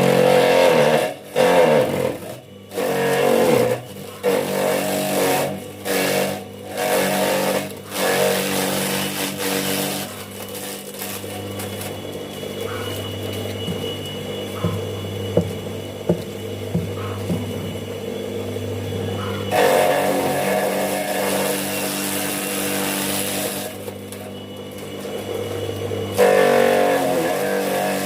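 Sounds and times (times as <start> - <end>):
electric motor humming: 0.0 - 28.0.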